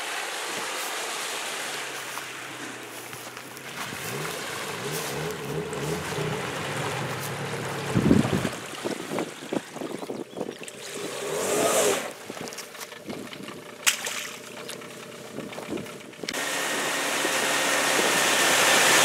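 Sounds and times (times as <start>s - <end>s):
outboard motor running: 0.3s - 19.0s.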